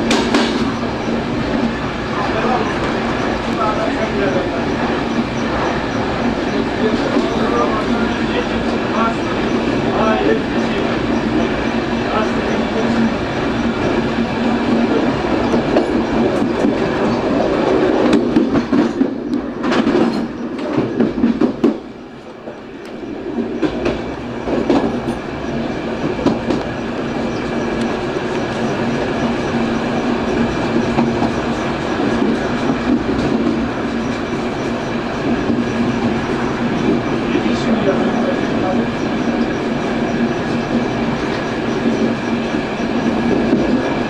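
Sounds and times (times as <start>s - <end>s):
train rolling noise: 0.0s - 44.0s
wheels clacking over rail joints: 0.0s - 44.0s.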